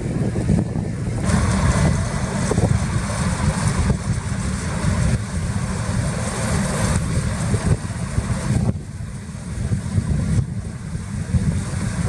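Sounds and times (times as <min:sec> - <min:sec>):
combine harvester engine rumble: 0:00.0 - 0:12.0.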